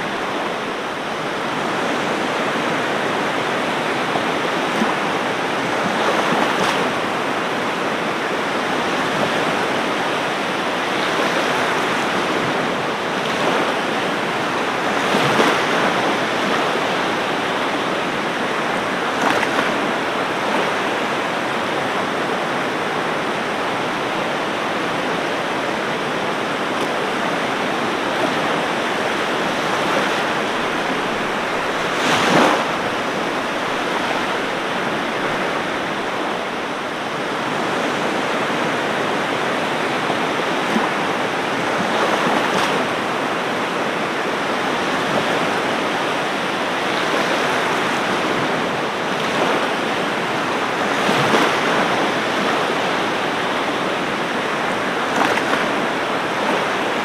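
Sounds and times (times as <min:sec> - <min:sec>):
waves breaking: 0:00.0 - 0:57.0.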